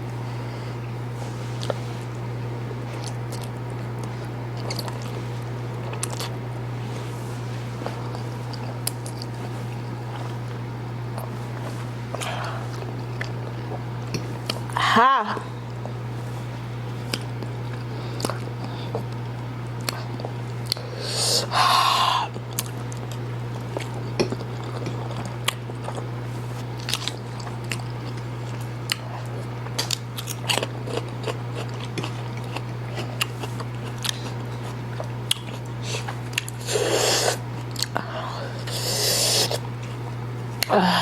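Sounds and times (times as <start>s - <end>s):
steady low hum: 0.0s - 41.0s
people chewing noodles: 2.8s - 14.8s, 17.0s - 41.0s.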